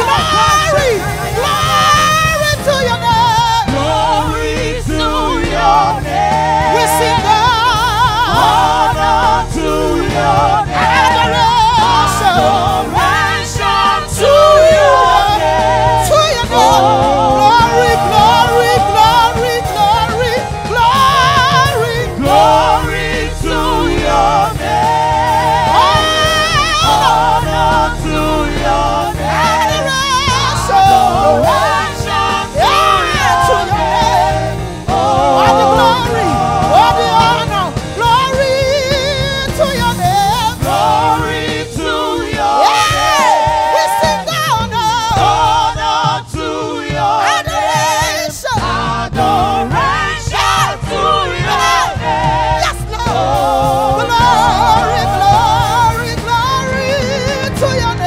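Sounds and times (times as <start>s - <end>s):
backing singers: 0.0s - 58.0s
band playing: 0.0s - 58.0s.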